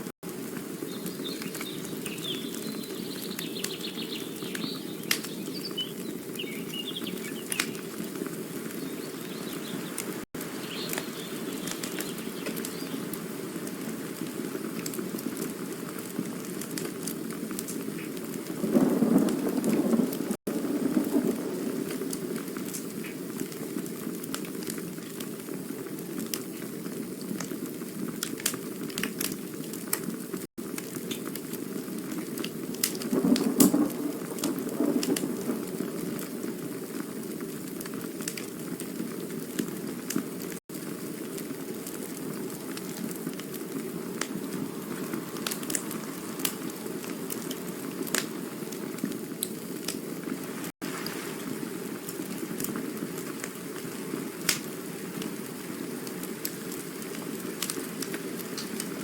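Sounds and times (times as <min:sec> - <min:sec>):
campfire flames rushing: 0:00.0 - 0:59.0
fire crackling and popping: 0:00.0 - 0:59.0.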